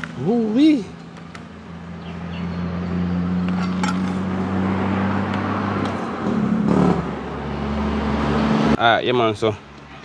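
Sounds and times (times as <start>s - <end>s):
engine humming: 0.0s - 8.8s.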